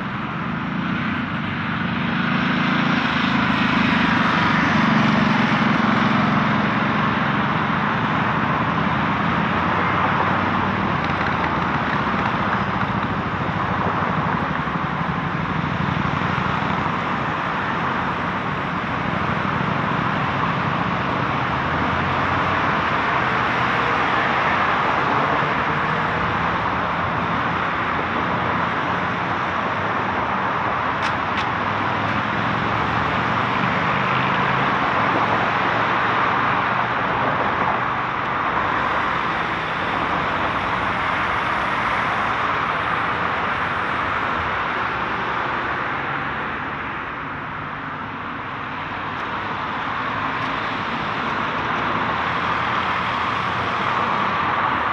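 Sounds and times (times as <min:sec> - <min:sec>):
road traffic rushing past: 0:00.0 - 0:54.9.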